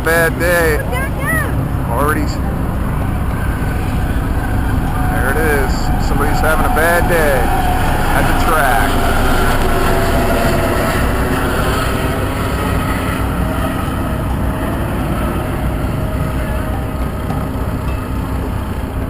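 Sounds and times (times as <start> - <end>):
motorcycle engines running: 0.0 - 19.0.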